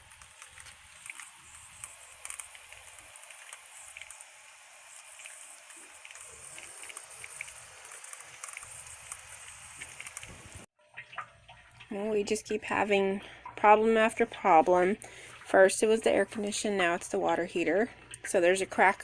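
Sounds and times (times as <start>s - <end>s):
water pattering: 0.0s - 19.0s.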